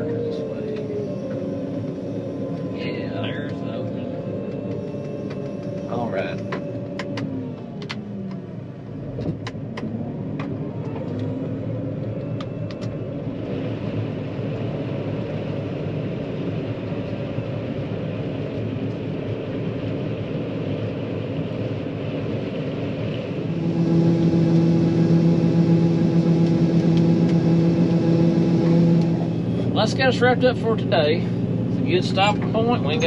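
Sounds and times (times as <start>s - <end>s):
combine harvester engine running: 0.0s - 33.0s.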